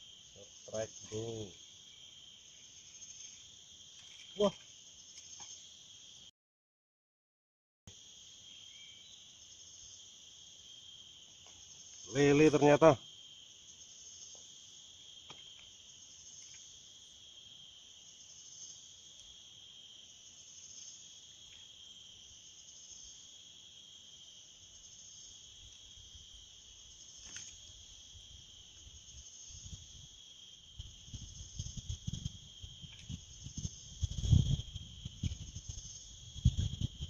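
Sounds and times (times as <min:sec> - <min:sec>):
insects chorus: 0:00.0 - 0:06.3, 0:07.9 - 0:37.0.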